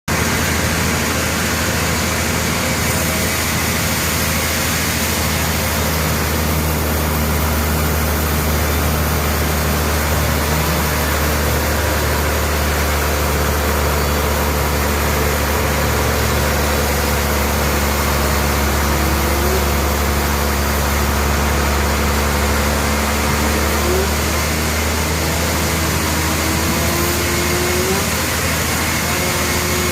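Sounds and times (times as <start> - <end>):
sawmill saw ripping log: 0.1 - 29.9.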